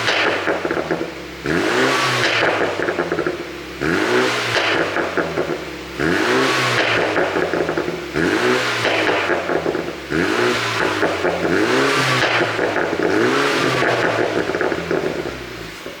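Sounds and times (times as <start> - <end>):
car engine revving: 0.0 - 16.0
exhaust pops and crackles: 0.0 - 16.0.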